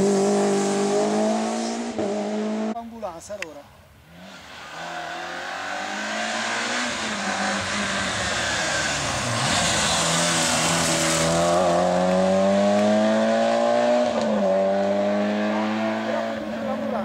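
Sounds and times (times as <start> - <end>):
rally car engine at high revs: 0.0 - 2.8, 4.2 - 17.0.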